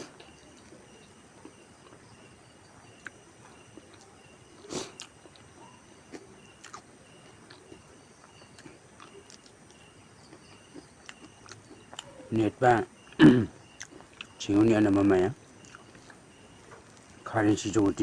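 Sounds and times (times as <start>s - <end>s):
chewing: 0.0s - 12.3s, 13.0s - 14.4s, 15.6s - 17.2s.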